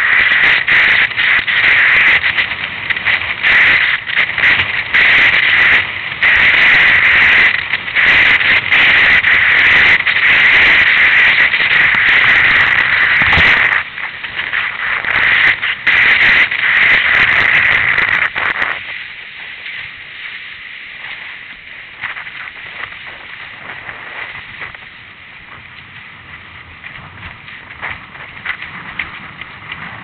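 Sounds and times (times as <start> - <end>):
rushing wind: 0.0 - 30.0.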